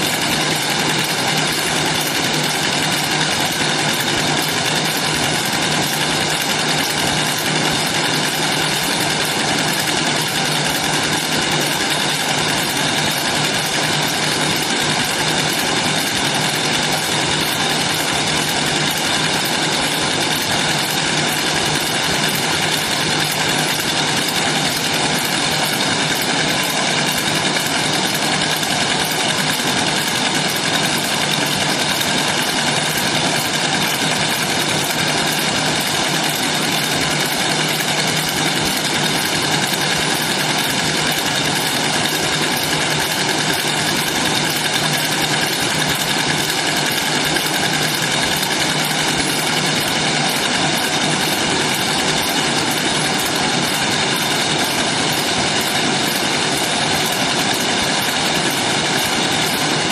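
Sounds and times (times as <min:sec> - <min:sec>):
packaging machinery humming: 0:00.0 - 0:59.9.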